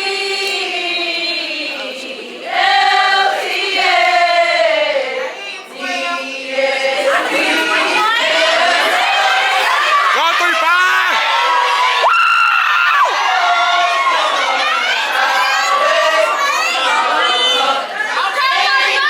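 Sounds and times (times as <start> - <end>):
voices singing like a choir: 0.0 - 19.0.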